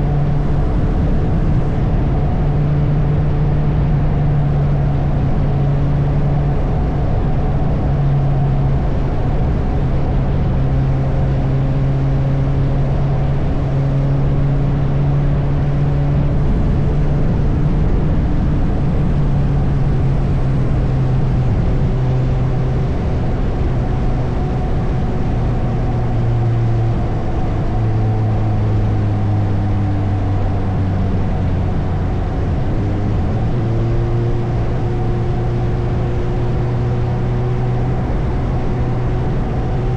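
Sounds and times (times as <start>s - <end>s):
motorcycle engine humming: 0.0s - 39.9s
wind and road noise: 0.0s - 39.9s.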